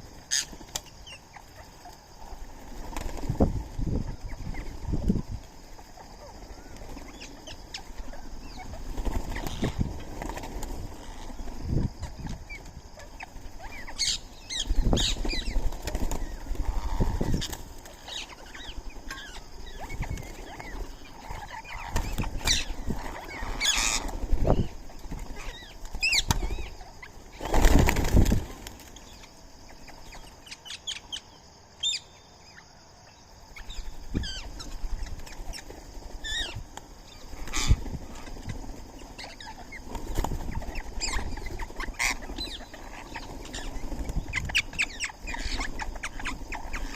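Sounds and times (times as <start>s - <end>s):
wings flapping: 0.0s - 29.3s, 33.6s - 46.9s
birds chirping: 0.0s - 46.9s.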